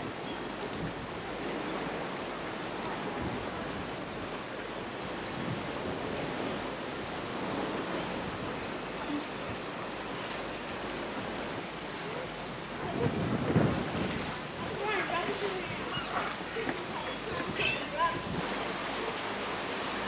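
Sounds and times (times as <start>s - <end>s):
distant water: 0.0s - 20.0s.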